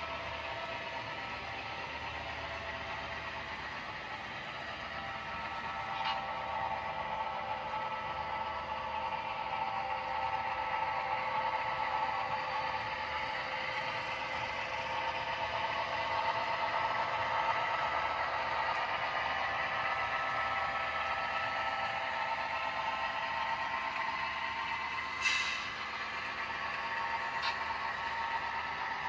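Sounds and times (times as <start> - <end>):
wheels clattering on track: 0.0 - 29.0.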